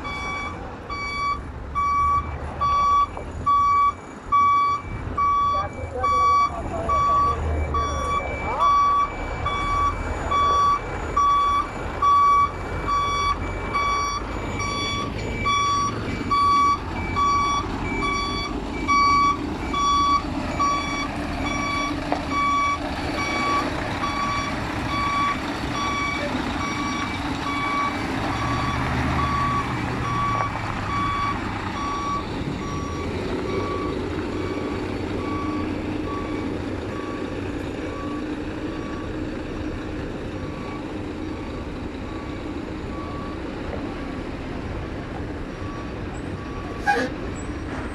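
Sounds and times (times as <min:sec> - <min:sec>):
truck reversing alarm beeping: 0:00.0 - 0:47.6.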